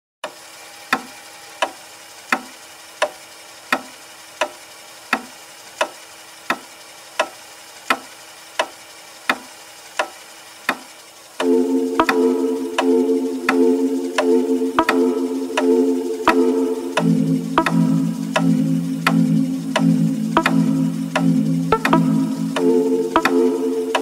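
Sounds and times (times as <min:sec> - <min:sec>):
clock ticking: 0:00.2 - 0:24.0
faint steady hum: 0:00.6 - 0:24.0.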